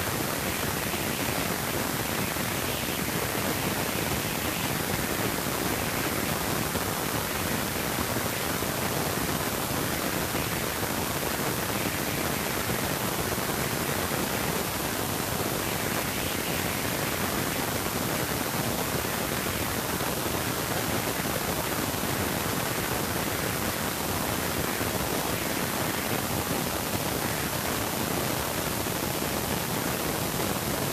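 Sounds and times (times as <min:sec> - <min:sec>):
static hiss: 0:00.0 - 0:30.9.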